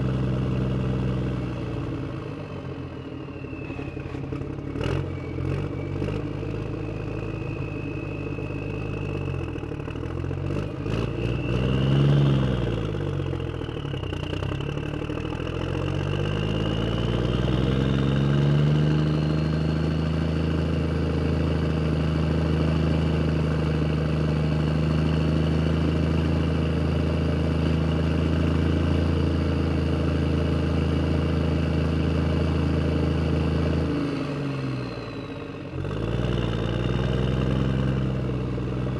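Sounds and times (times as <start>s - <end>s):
vehicle engine running and revving: 0.0s - 38.9s.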